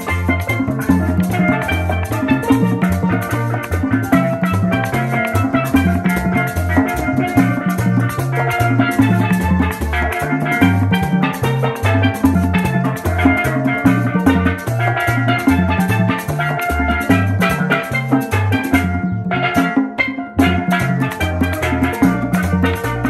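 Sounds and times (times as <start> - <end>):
instrumental tropical dance music: 0.0 - 23.0.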